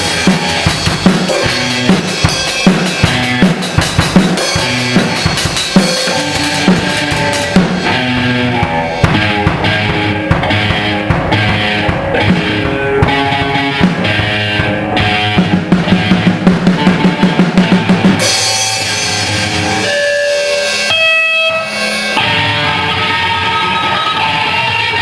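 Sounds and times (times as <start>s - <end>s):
rock music with drums: 0.0s - 25.0s.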